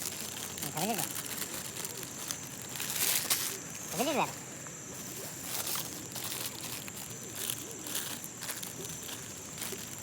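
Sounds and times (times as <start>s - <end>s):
high insect trill: 0.0s - 10.0s.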